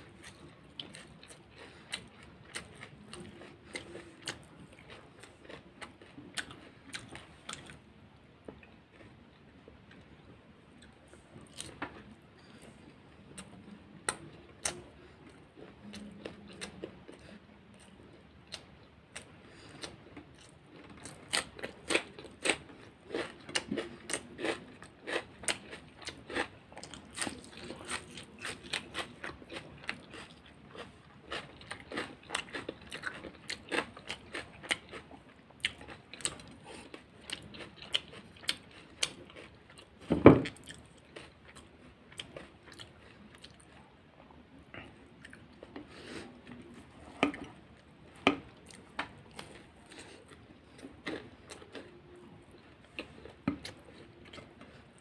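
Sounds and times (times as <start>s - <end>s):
person chewing crisp food: 0.0s - 7.9s, 8.5s - 55.0s.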